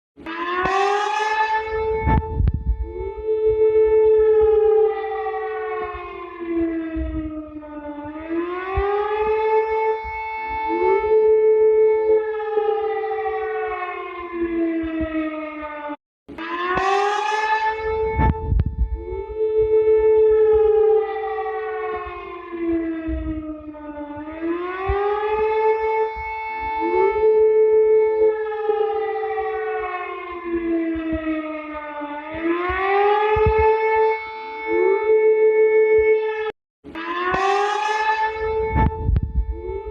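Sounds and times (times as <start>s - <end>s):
warning siren wailing: 0.2s - 39.9s.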